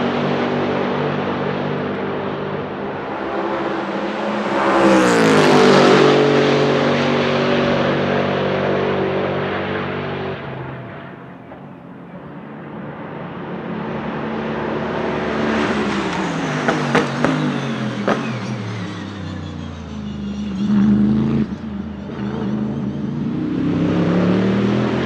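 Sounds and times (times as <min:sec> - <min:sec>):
race car engine passing: 0:00.0 - 0:25.0.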